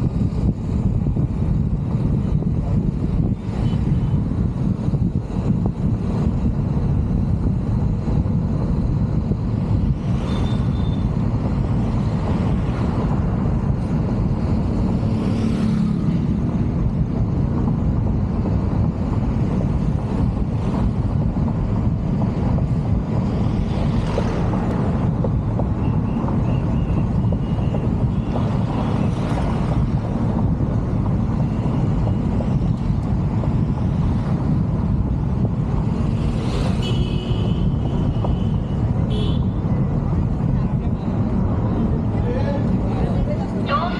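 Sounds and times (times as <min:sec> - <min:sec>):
road noise: 0:00.0 - 0:43.9
wind rush on microphone: 0:00.0 - 0:43.9.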